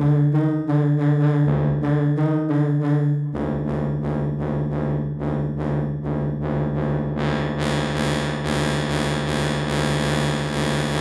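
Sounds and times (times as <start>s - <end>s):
pulsing synthesizer brass note: 0.0s - 11.0s.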